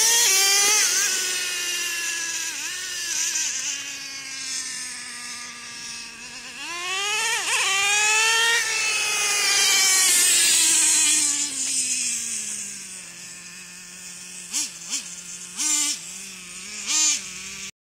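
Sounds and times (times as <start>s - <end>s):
model engine revving and idling: 0.0s - 17.7s.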